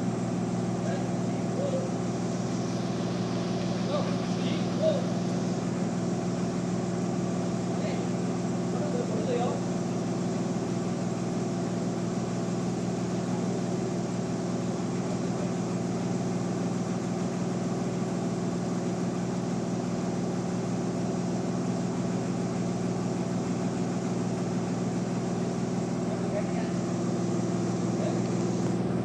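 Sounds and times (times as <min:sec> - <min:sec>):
motor humming steadily: 0:00.0 - 0:29.0.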